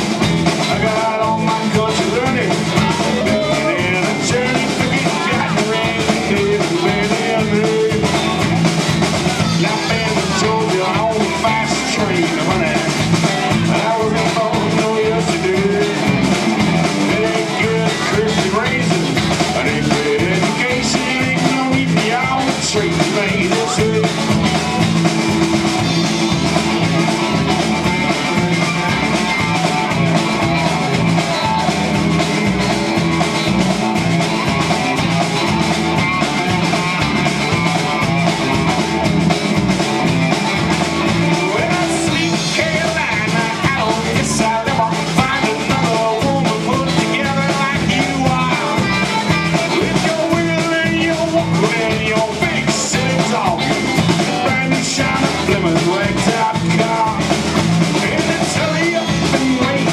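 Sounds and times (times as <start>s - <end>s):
country-rock band playing: 0.0s - 59.9s
person singing: 0.0s - 59.9s.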